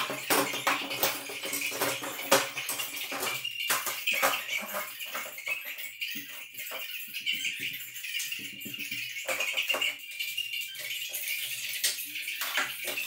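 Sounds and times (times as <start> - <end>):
hard objects clattering: 0.0 - 13.0.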